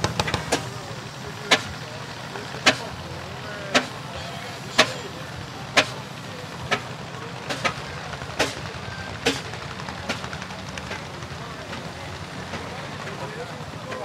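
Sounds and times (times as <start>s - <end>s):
diesel engine exhaust bangs: 0.0s - 14.0s.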